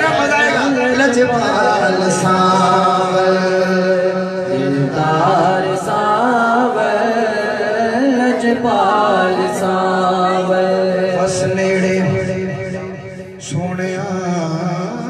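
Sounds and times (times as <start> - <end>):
man singing through pa: 0.0 - 15.0.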